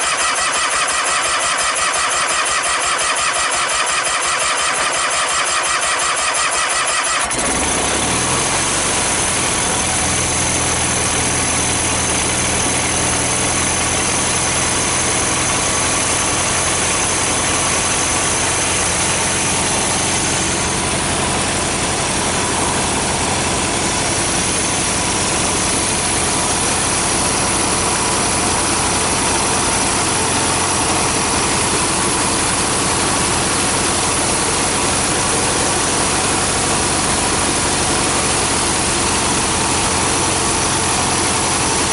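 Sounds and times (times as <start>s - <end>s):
garden tractor engine starting: 0.0s - 41.9s.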